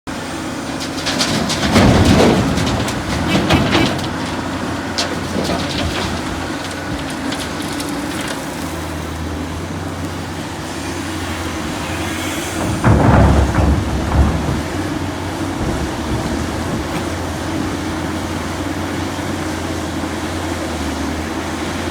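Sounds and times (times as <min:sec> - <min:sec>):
rumbling and clattering: 0:00.1 - 0:21.9.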